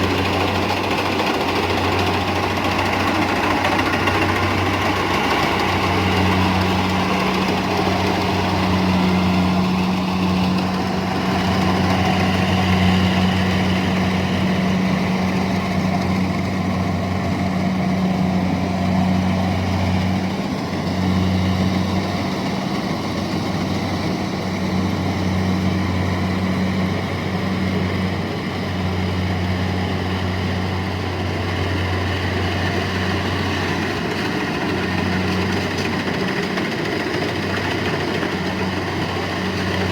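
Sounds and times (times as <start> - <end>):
harvesting machine engine humming: 0.0 - 39.9.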